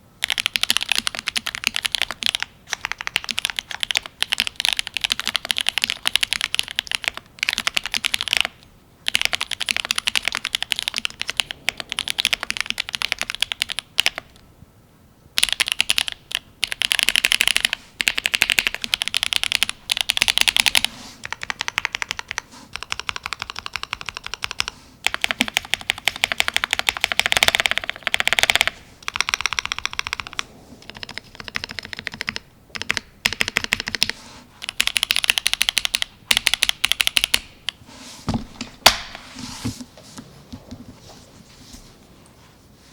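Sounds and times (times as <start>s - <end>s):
typing on mechanical keyboard: 0.2s - 14.4s, 15.4s - 37.5s.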